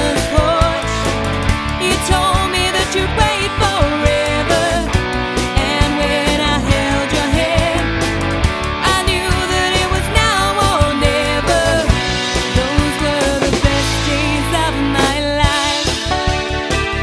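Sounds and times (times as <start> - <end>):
lead vocal singing: 0.0 - 1.2, 1.8 - 7.9, 8.8 - 16.0
rock band music: 0.0 - 17.0.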